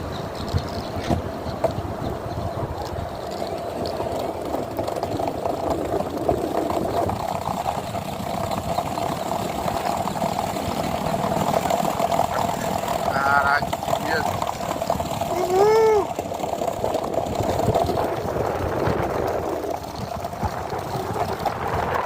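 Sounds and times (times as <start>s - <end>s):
longboard wheels rolling on pavement: 0.0s - 22.0s.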